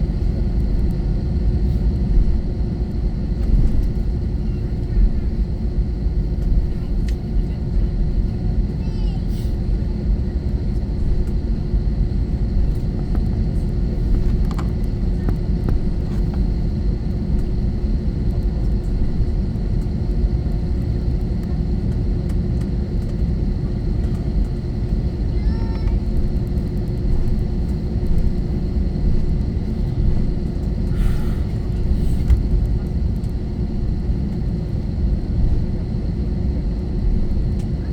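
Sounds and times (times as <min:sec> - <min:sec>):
airplane cabin rumble and hum: 0:00.0 - 0:37.9.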